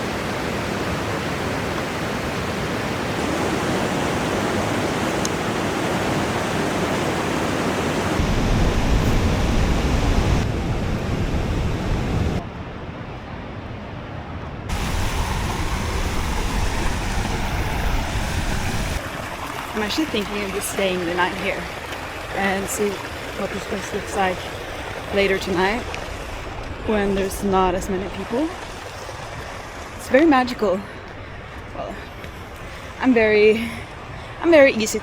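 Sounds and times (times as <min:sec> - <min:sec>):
river rapids roaring: 0:00.0 - 0:12.5, 0:13.8 - 0:35.0.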